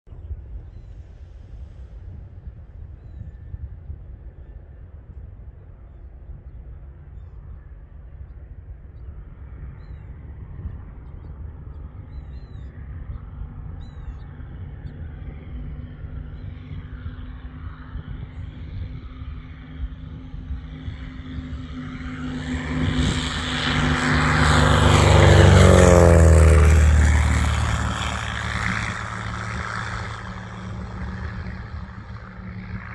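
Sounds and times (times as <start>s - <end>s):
propeller plane flyby: 0.1s - 32.9s.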